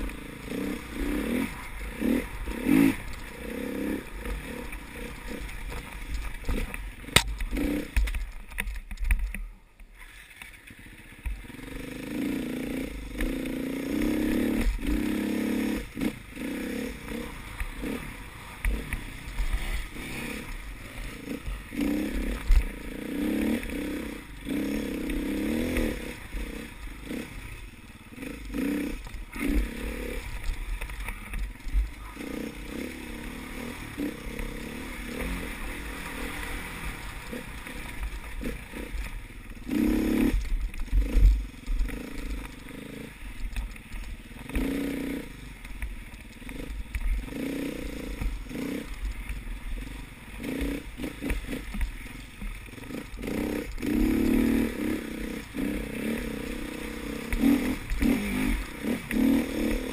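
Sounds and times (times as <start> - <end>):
motorcycle engine revving: 0.0 - 9.3, 10.0 - 59.9.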